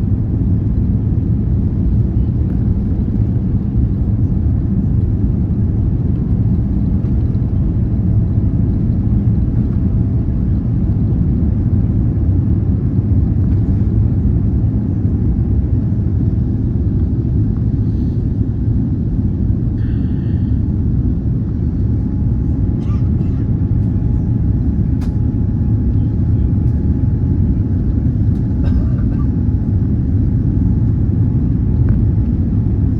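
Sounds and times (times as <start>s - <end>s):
jet engines rumbling: 0.0s - 32.9s.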